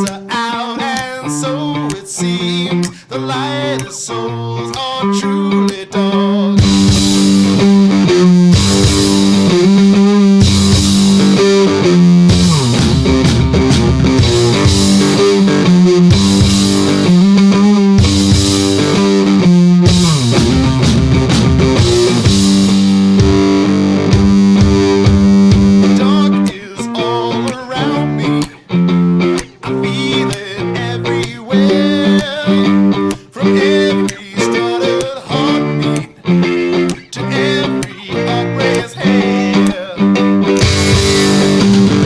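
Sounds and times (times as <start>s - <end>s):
rock music with electric guitar: 0.0s - 42.0s.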